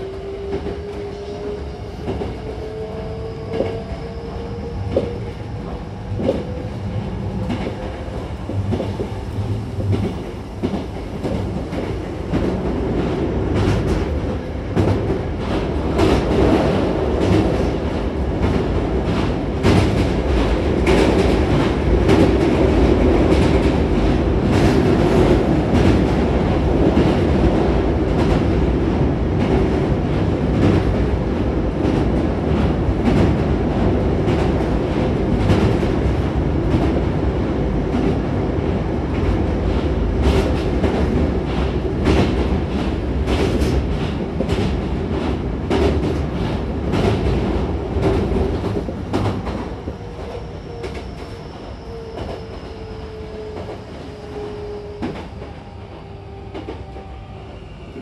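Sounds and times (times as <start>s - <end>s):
train rumble and rapid clatter: 0.0s - 58.0s.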